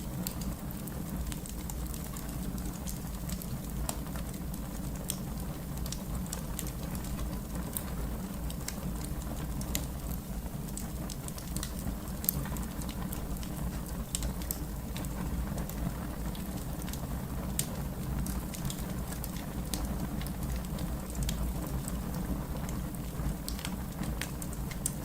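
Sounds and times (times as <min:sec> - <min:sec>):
low rumble of flames: 0:00.0 - 0:25.0
fire pops and snaps: 0:00.1 - 0:25.0.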